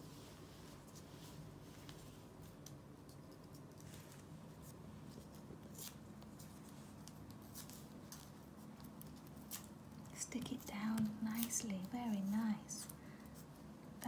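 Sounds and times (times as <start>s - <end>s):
low room hum: 0.0s - 14.0s
paintbrush clicks and scrapes: 0.1s - 14.0s.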